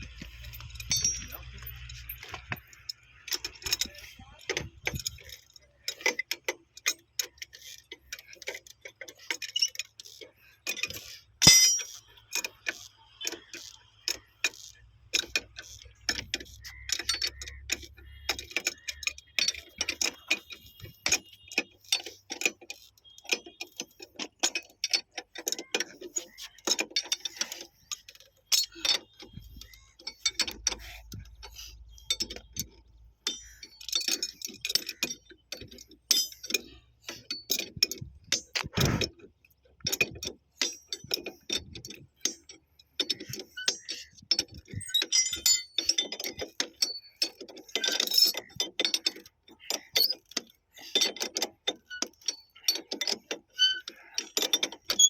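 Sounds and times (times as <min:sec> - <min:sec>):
hand tools clinking on metal: 0:00.0 - 0:55.0.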